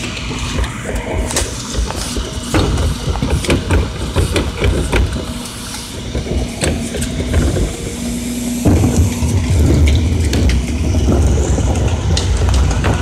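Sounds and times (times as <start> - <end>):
hydraulic cart tipper lifting: 0.0 - 13.0
truck engine running: 0.0 - 13.0.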